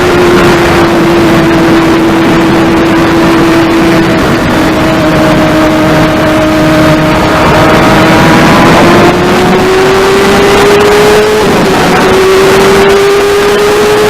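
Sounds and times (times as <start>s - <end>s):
motorcycle engine revving high: 0.0s - 14.0s
wind rush on microphone: 0.0s - 14.0s.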